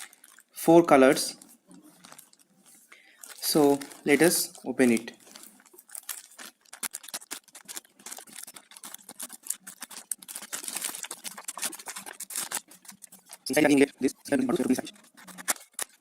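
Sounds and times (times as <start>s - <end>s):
package crackling and rustling: 0.0s - 16.0s.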